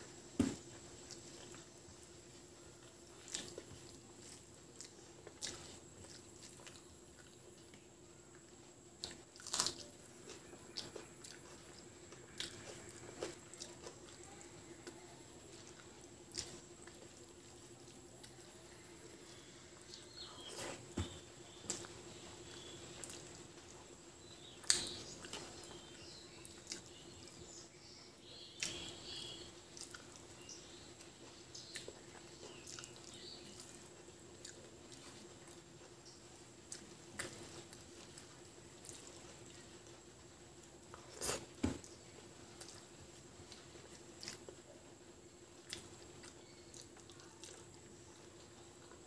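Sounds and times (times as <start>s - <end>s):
faint steady hum: 0.0s - 49.0s
wet chewing: 1.0s - 27.4s, 28.6s - 40.0s, 40.6s - 44.7s, 45.6s - 49.0s.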